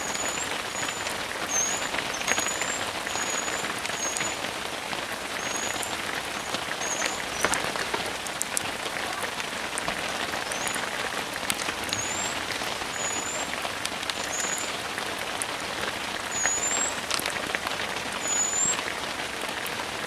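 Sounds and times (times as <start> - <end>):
sharp drips: 0.0 - 20.0
steady rain: 0.0 - 20.0.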